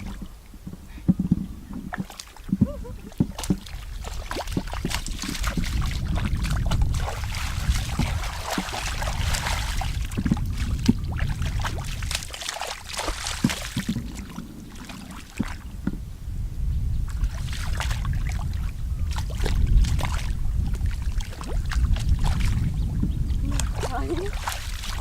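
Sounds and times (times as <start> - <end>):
water sloshing and splashing: 0.0 - 16.0, 17.1 - 25.0
low rumble: 0.0 - 25.0.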